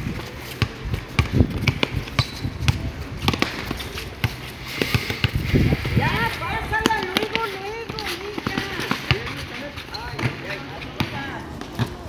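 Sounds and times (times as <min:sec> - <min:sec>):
basketball bouncing on concrete: 0:00.1 - 0:05.4, 0:06.2 - 0:12.0.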